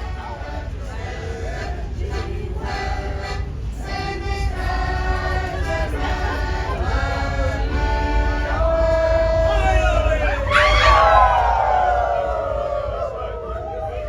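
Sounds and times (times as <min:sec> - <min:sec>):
steady low rumble: 0:00.0 - 0:14.0
voices singing with music: 0:00.0 - 0:14.0.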